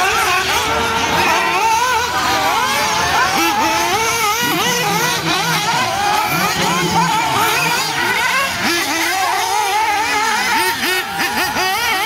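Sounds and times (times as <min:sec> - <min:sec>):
small model engines whining and revving: 0:00.0 - 0:12.0.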